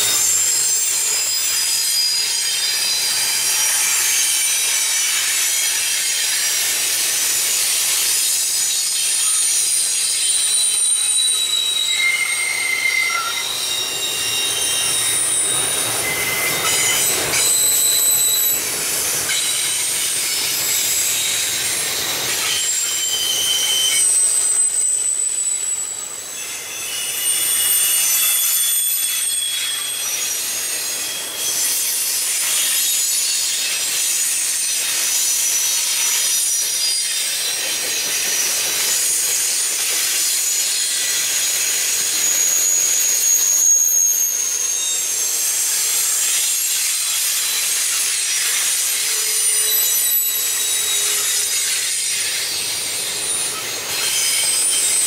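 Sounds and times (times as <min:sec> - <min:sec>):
freight train rolling past: 0:00.0 - 0:55.0
steel wheels squealing on rails: 0:00.0 - 0:55.0.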